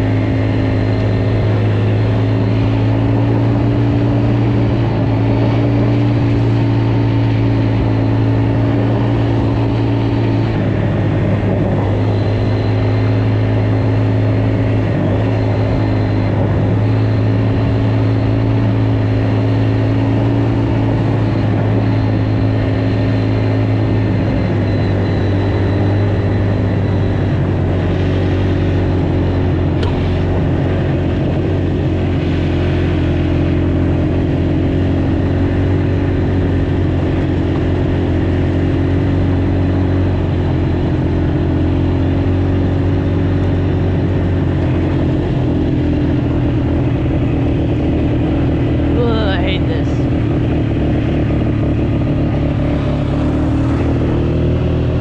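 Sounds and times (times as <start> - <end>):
small off-road engine running: 0.0 - 55.0.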